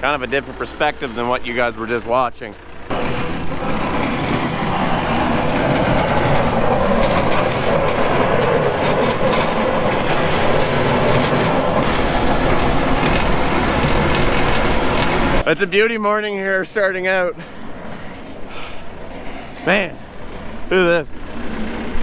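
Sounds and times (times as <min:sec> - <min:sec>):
loader diesel engine under load: 0:00.0 - 0:22.0.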